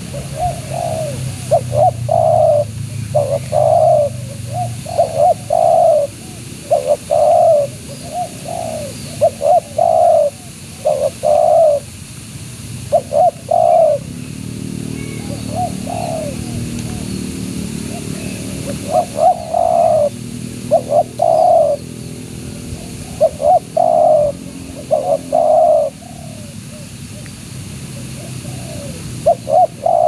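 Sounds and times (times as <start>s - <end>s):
dove cooing: 0.0s - 11.9s, 12.9s - 14.2s, 14.9s - 27.3s, 27.9s - 30.0s.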